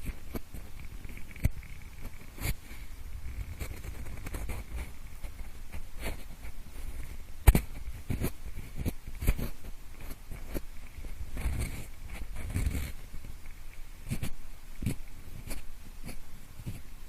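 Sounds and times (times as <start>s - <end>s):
pencil scraping and tapping: 0.0s - 16.9s.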